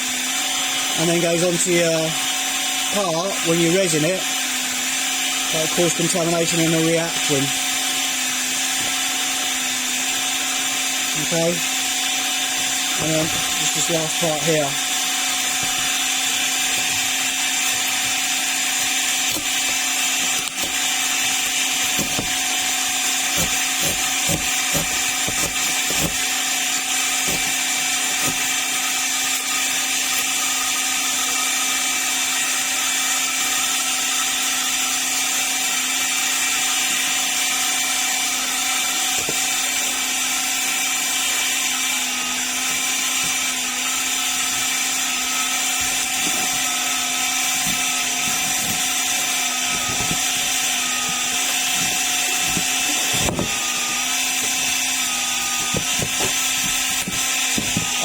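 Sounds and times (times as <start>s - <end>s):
power tool whining: 0.0s - 58.0s.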